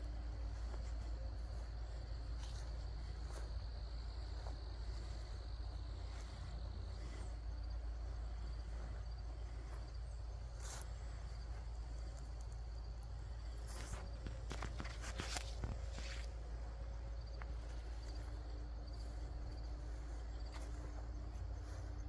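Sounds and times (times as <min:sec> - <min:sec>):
constant low rumble: 0:00.0 - 0:22.0
crickets trilling: 0:00.0 - 0:22.0.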